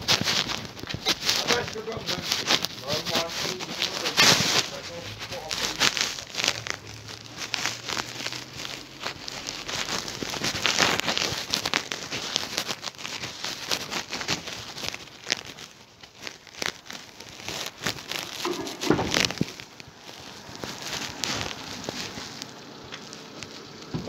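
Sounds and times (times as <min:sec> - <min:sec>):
handling noise on phone microphone: 0:00.0 - 0:24.0.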